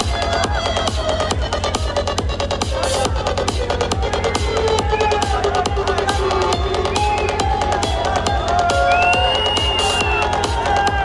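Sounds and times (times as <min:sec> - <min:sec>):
music with fast beat: 0:00.0 - 0:11.0.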